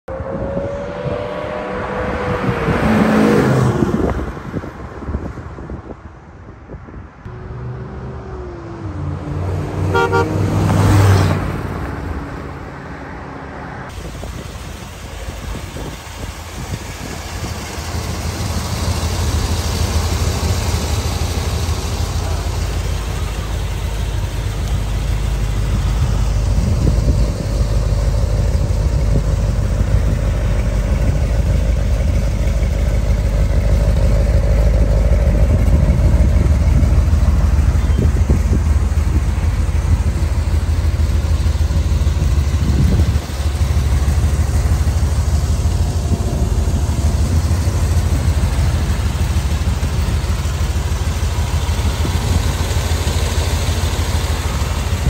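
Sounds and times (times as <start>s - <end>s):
vehicles passing: 0.0s - 55.0s
car engine idling: 9.9s - 13.0s, 13.9s - 55.0s.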